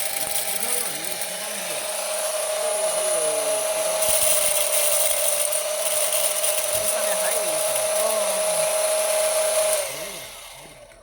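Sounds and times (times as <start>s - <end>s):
sorting machine whine: 0.0s - 11.0s.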